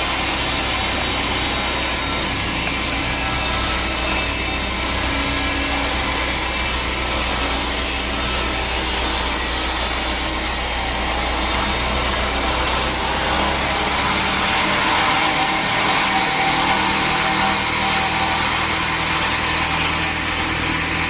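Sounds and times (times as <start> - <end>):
saw cutting through log: 0.0 - 21.0.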